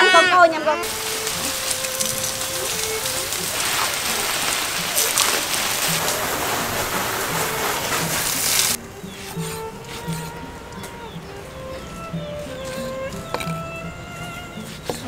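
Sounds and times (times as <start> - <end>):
hose water splattering on paving: 0.8 - 15.0.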